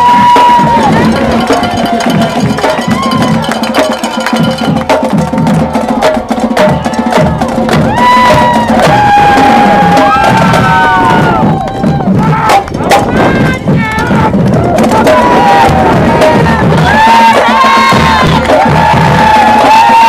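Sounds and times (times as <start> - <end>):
drumline marching cadence: 0.0 - 20.0.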